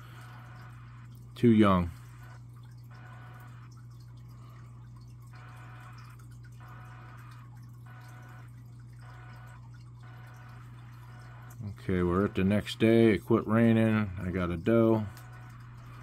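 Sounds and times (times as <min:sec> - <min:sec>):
faint dripping rainwater: 0:00.0 - 0:16.0
steady low hum: 0:00.0 - 0:16.0.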